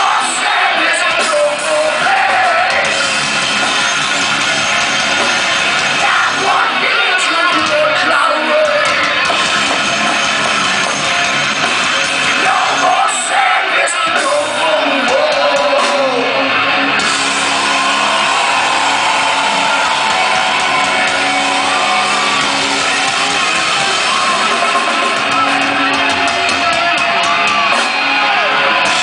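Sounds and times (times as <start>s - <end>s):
distorted electric guitars: 0.0s - 29.0s
drums: 0.0s - 29.0s.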